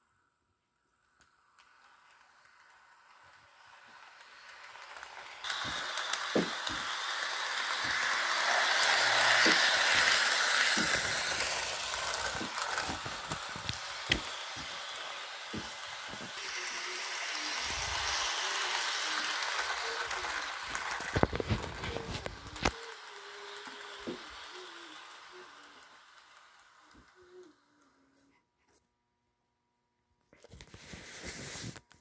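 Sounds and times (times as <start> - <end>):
model train whirring: 0.1 - 28.2.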